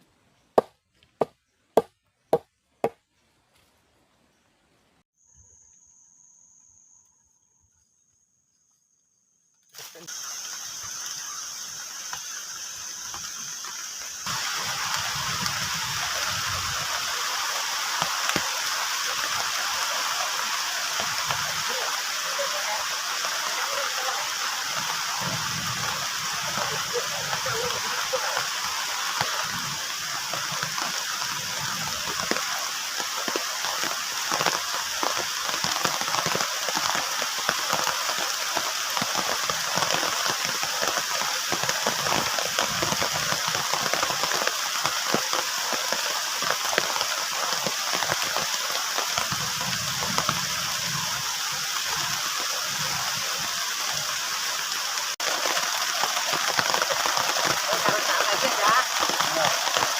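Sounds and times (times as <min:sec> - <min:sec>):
heavy rain on plastic tarp: 0:09.8 - 0:59.9.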